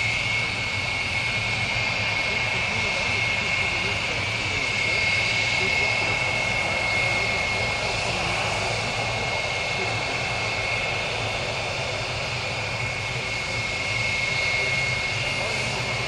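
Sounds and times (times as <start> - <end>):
jet engine whine: 0.0 - 16.0
propeller plane engines droning: 0.0 - 16.0.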